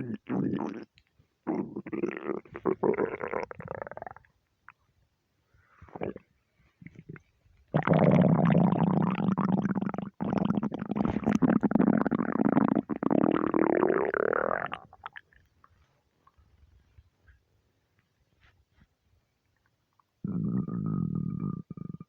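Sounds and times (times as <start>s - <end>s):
stomach rumbling and gurgling: 0.0s - 4.9s, 5.8s - 17.4s, 19.9s - 22.0s.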